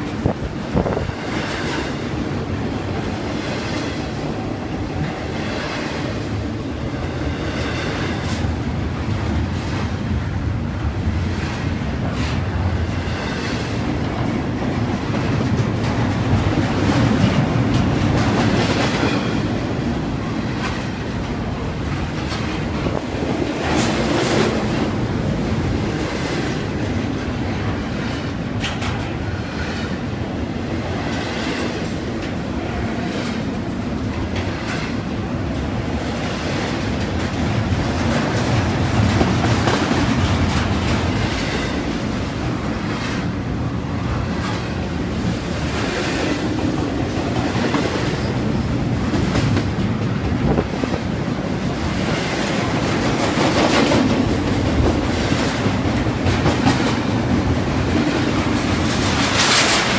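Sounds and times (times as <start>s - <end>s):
freight train wheels on rails: 0.0s - 59.9s.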